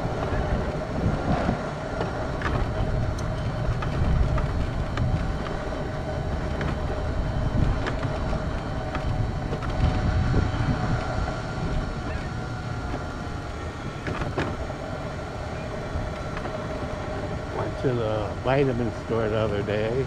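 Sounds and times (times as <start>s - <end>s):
wheelchair motor whine: 0.0s - 20.0s
wheels rumbling on asphalt: 0.0s - 20.0s.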